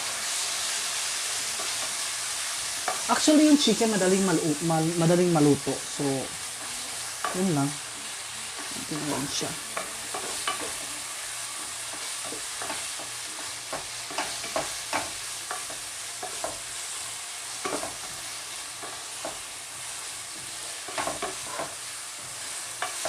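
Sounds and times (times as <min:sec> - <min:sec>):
chicken sizzling in frying pan: 0:00.0 - 0:23.0.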